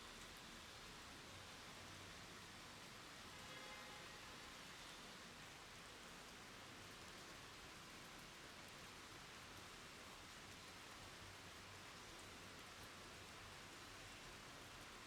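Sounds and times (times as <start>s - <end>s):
rain falling on wet surface: 0.0s - 15.0s.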